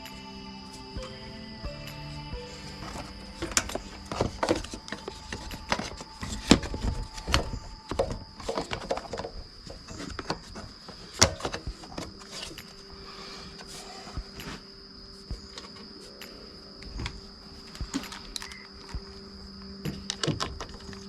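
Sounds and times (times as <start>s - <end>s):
high-pitched insect whine: 0.0s - 21.0s.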